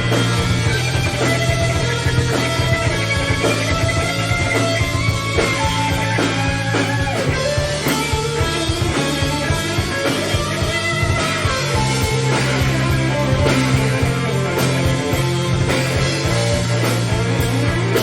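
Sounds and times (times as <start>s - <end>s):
bass guitar: 0.0s - 18.0s
distorted electric guitar solo: 0.0s - 18.0s
drums: 0.0s - 18.0s.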